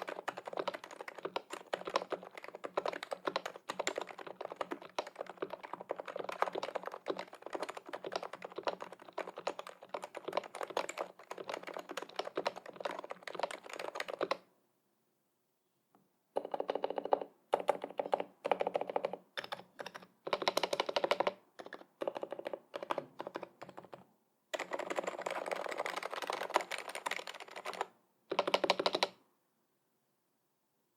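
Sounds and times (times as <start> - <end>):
typing on a keyboard: 0.0 - 14.4, 16.4 - 29.2.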